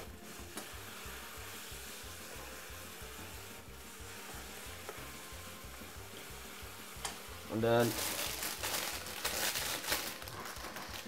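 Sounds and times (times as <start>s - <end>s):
food sizzling in a frying pan: 0.0s - 11.0s
wooden spoon stirring: 0.0s - 11.0s.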